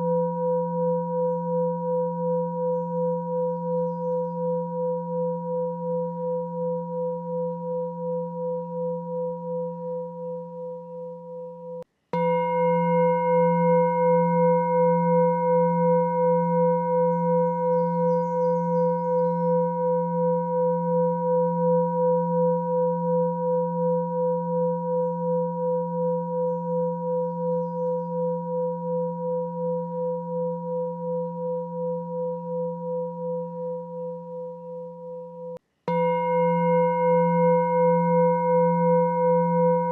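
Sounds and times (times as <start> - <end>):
ringing meditation tone: 0.0 - 39.9.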